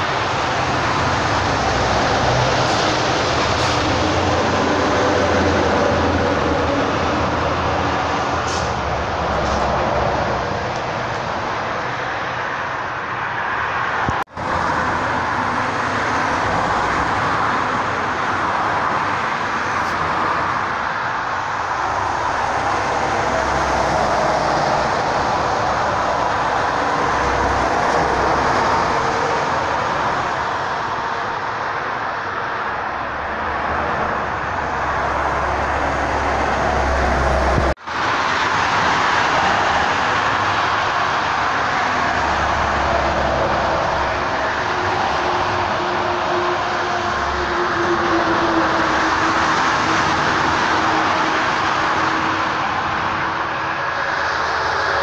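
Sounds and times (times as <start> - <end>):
highway traffic roar: 0.0 - 55.0
lorries rumbling past: 0.0 - 55.0.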